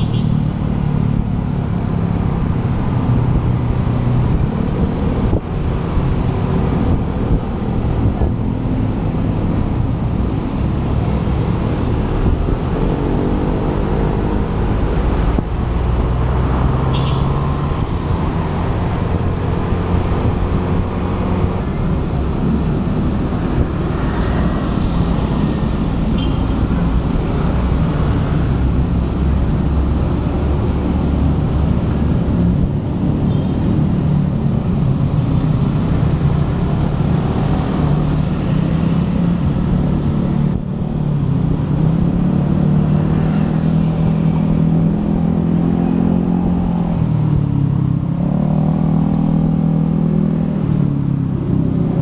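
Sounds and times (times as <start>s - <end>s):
surrounding cars and motorbikes: 0.0s - 52.0s
wind and road noise: 0.0s - 52.0s.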